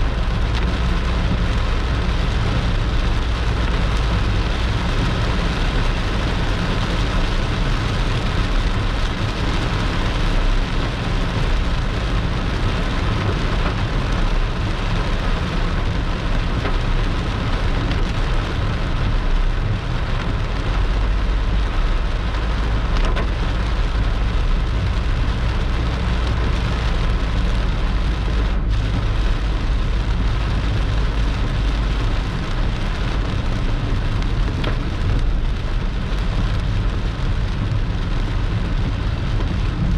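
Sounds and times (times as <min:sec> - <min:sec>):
heavy rain pouring: 0:00.0 - 0:39.9
low rumble: 0:00.0 - 0:39.9.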